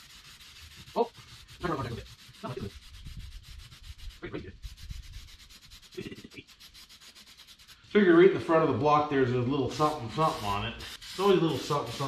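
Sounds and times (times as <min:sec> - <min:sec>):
spray paint can hissing: 0:00.0 - 0:07.8, 0:09.7 - 0:12.0.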